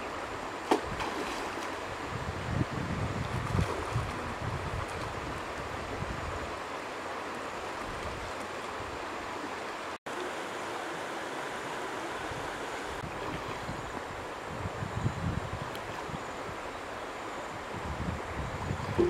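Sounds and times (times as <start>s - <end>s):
water flowing in stream: 0.0s - 19.0s.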